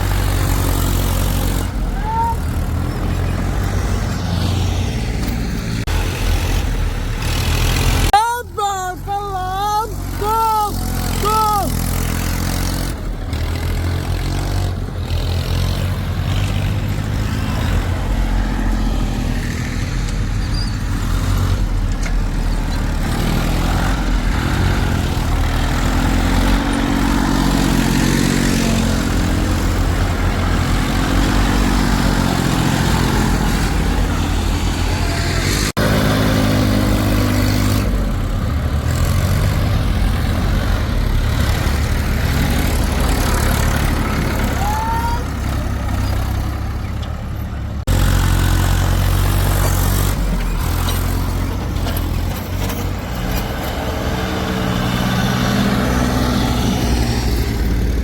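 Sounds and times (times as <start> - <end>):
heavy diesel engines revving: 0.0 - 58.0.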